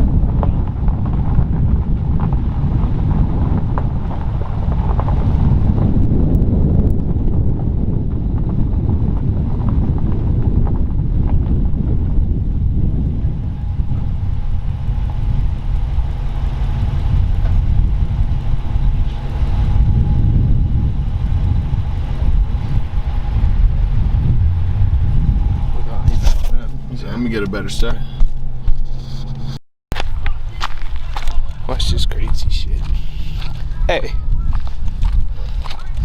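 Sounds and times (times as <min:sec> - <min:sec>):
faint engine tones: 0:00.0 - 0:36.0
motor vehicle rumble: 0:00.0 - 0:36.0.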